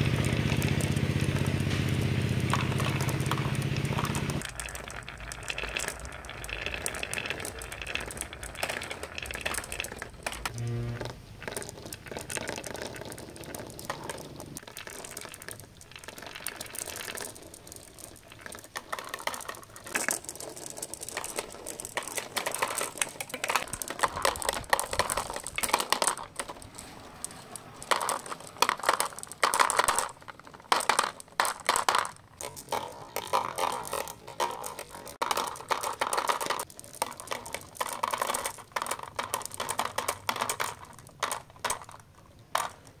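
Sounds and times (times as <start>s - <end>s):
plastic balls clicking and knocking: 0.0s - 43.0s.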